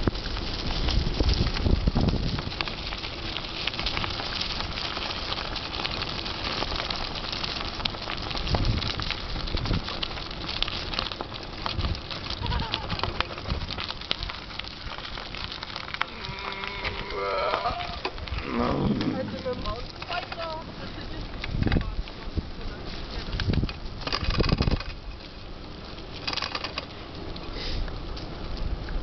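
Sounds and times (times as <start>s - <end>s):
bike tyres on leaves and gravel: 0.0s - 29.0s
wind rumble on microphone: 0.0s - 29.0s.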